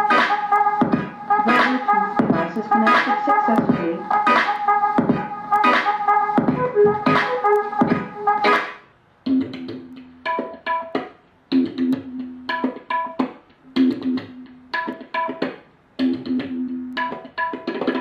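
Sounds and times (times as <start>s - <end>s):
instrumental music through speaker: 0.0s - 18.0s.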